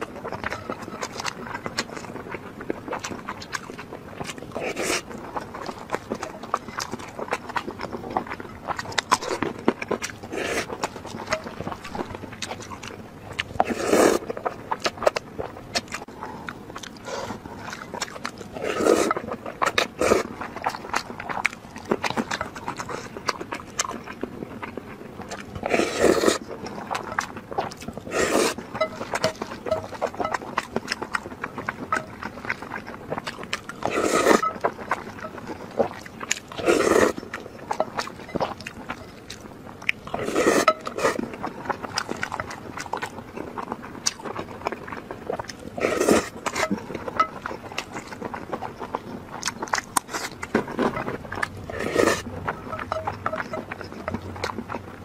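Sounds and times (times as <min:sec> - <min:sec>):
wet chewing and smacking: 0:00.0 - 0:55.0
slurping noodles: 0:02.9 - 0:12.6, 0:13.4 - 0:14.6, 0:15.9 - 0:23.2, 0:25.4 - 0:39.0, 0:40.1 - 0:54.9.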